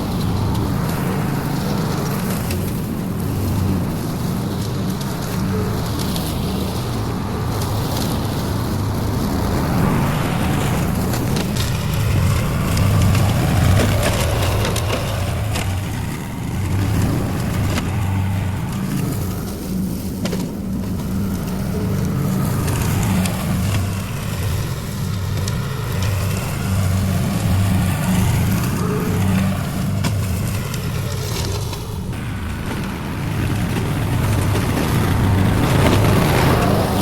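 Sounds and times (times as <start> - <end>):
small gasoline engine cutting grass: 0.0 - 37.0.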